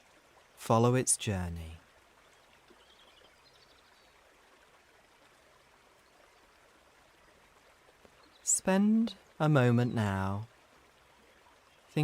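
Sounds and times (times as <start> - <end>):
faint trickling brook: 0.0 - 12.0.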